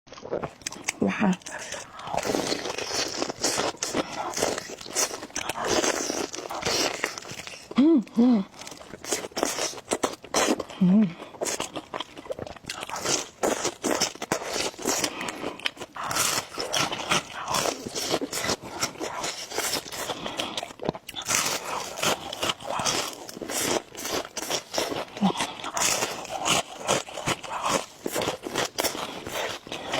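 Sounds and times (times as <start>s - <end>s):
crunchy food being chewed: 0.1s - 7.8s, 8.5s - 29.9s.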